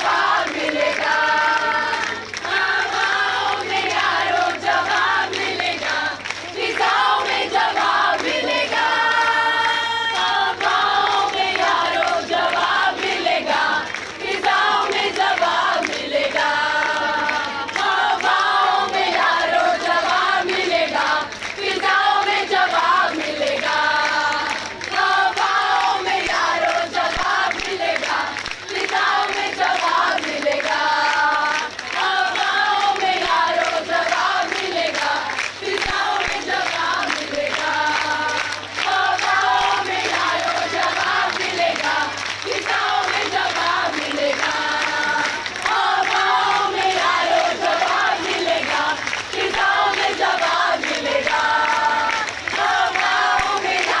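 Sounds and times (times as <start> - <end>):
women singing chants in unison: 0.0 - 54.0.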